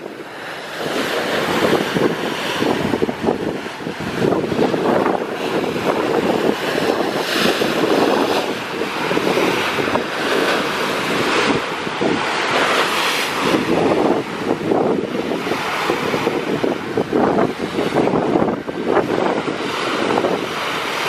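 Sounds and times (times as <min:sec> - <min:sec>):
sea water splashing along a boat: 0:00.0 - 0:21.0
wind buffeting the microphone: 0:00.0 - 0:21.0.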